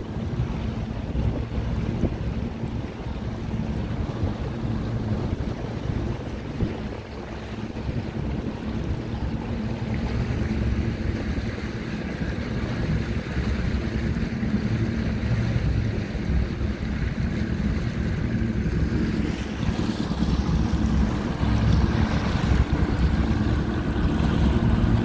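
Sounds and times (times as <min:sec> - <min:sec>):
outboard motor running: 0:00.0 - 0:25.0
water washing past hull: 0:00.0 - 0:25.0
wind on microphone: 0:00.0 - 0:25.0.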